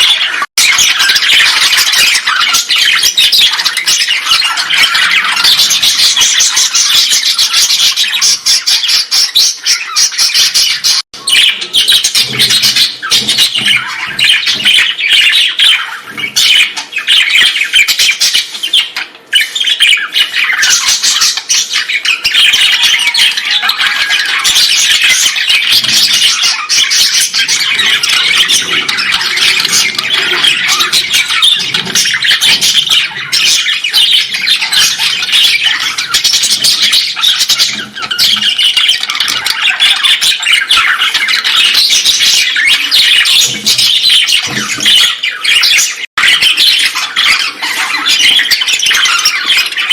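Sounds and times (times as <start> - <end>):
colony of birds squawking: 0.0 - 49.9.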